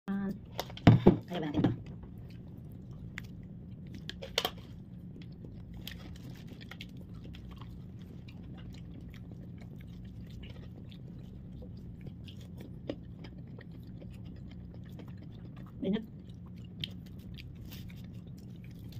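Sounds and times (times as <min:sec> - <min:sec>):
low steady hum: 0:00.1 - 0:18.9
crunchy chewing of fried chicken: 0:02.0 - 0:18.9.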